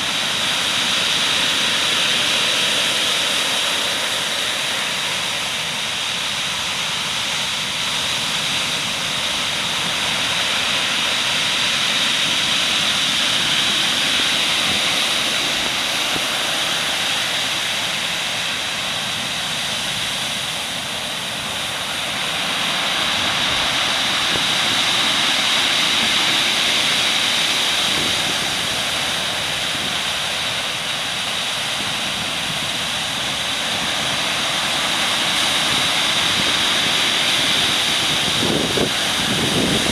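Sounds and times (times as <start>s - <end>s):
heavy surf breaking waves: 0.0s - 39.9s.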